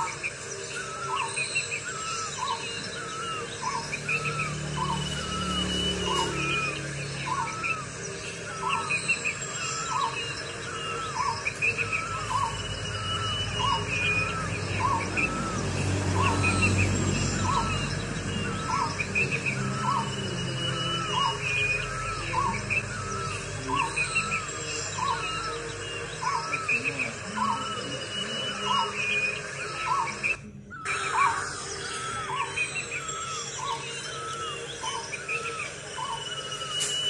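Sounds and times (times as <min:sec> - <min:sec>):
higher bird chirps: 0:00.0 - 0:37.0
two-part bird call: 0:00.0 - 0:37.0.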